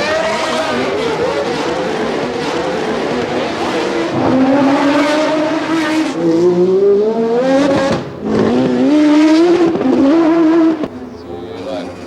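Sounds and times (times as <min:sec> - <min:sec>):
racing car engine revving: 0:00.0 - 0:11.0.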